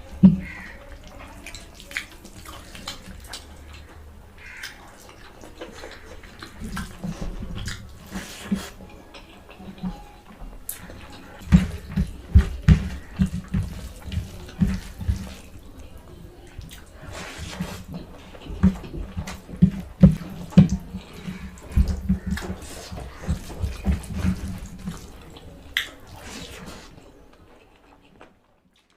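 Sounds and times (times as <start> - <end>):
person chewing and slurping: 1.5 - 15.9, 16.5 - 28.9.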